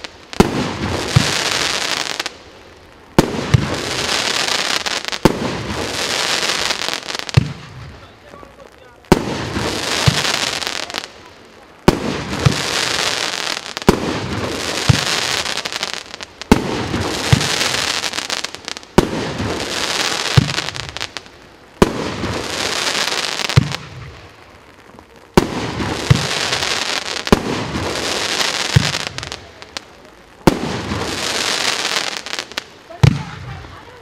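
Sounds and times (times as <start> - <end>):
firework bangs: 0.0 - 34.0
hissing crackle of fireworks: 0.0 - 34.0.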